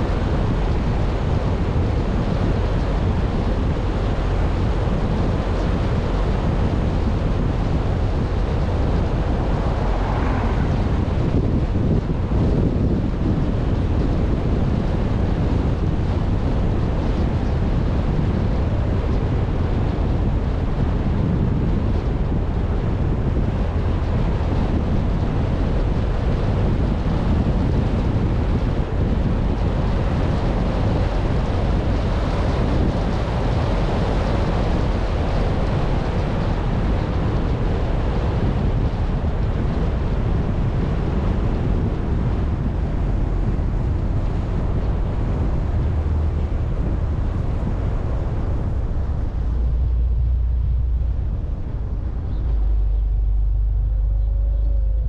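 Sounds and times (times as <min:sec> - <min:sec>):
car running and tyre noise: 0:00.0 - 0:55.0
wind rushing over microphone: 0:00.0 - 0:55.0.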